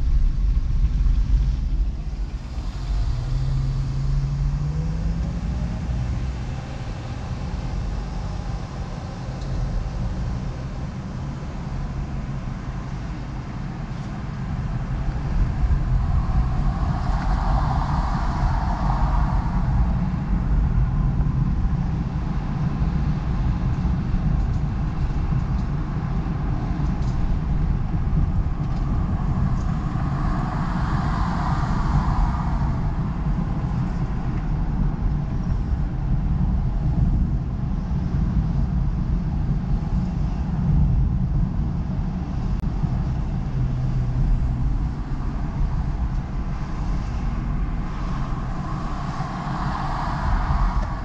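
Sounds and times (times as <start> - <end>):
road and engine noise: 0.0 - 51.0
tyre and traffic noise: 0.0 - 51.0.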